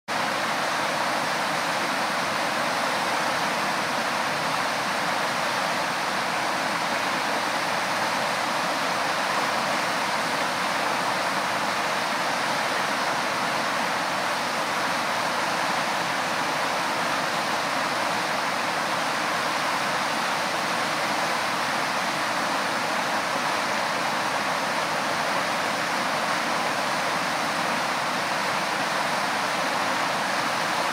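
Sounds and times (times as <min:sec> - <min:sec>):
water rushing over spillway: 0:00.1 - 0:30.9.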